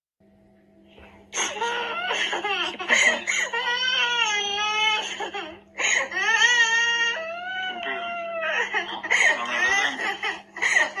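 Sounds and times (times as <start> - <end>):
low steady hum: 0.2 - 11.0.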